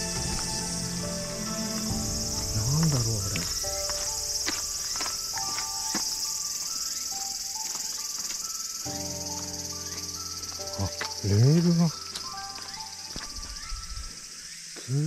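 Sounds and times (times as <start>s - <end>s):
soft background music: 0.0s - 14.9s
cicadas shrilling: 0.0s - 15.0s.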